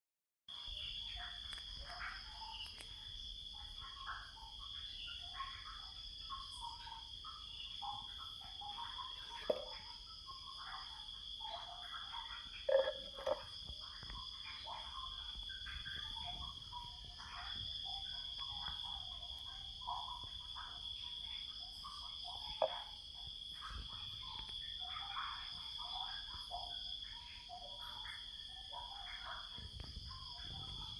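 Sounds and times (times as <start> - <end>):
insects trilling: 0.5 - 30.9.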